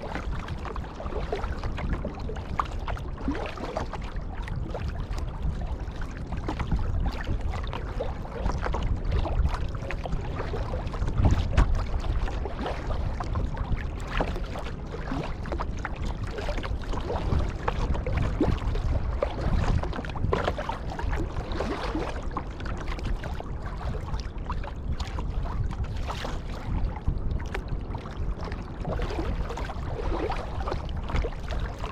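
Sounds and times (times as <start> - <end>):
paddle splashing in water: 0.0 - 31.9
steady low rumble: 0.0 - 31.9
water lapping at hull: 0.0 - 31.9.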